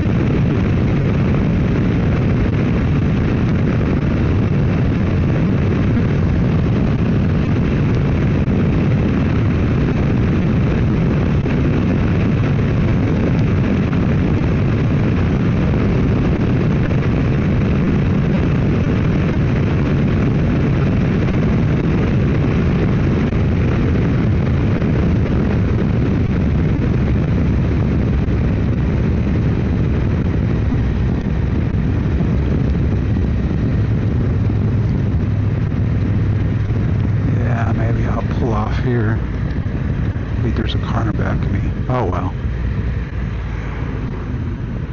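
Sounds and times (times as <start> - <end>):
motorcycle engine cruising: 0.0 - 44.9
wind noise: 0.0 - 44.9.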